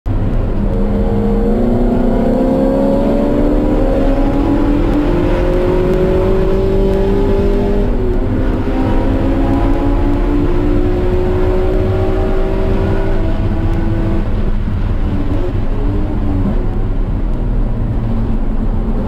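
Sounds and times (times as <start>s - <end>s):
low rumble: 0.1s - 19.0s
race car engine revving: 0.1s - 19.0s.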